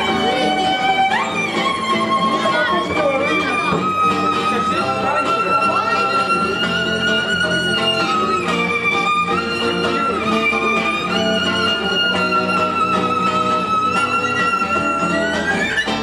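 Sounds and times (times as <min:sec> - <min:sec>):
guitar accompaniment: 0:00.0 - 0:16.0
violin melody: 0:00.0 - 0:16.0.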